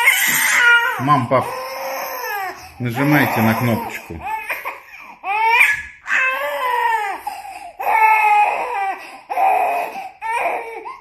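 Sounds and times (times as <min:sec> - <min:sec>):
infant crying: 0:00.0 - 0:11.0.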